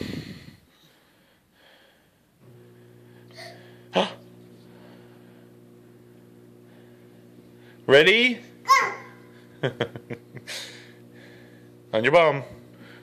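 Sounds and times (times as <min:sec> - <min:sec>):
faint machine hum: 0:00.0 - 0:13.0.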